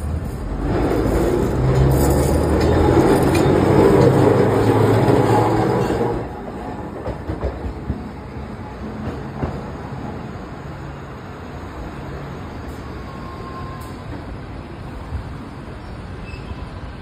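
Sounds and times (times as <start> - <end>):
streetcar wheels rumbling on rails: 0.0 - 17.0.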